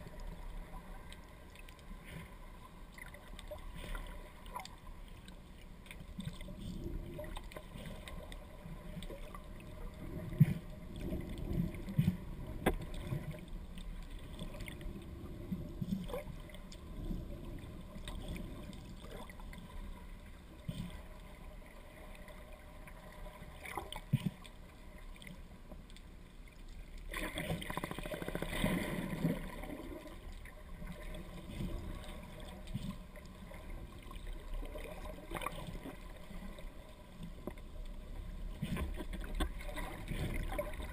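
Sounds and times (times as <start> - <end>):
underwater rumble: 0.0 - 40.9.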